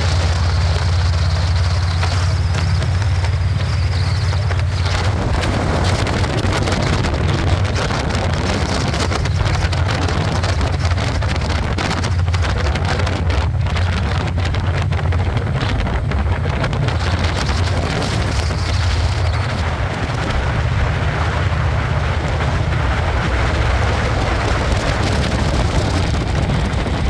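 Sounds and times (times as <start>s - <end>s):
motorcycle engine and road drone: 0.0s - 27.0s
wind buffeting microphone: 0.0s - 27.0s.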